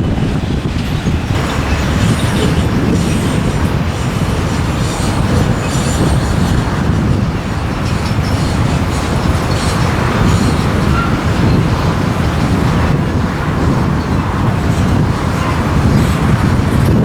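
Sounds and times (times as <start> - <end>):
freight train wheels rumbling: 0.0 - 17.0
wheel squeal: 0.0 - 17.0.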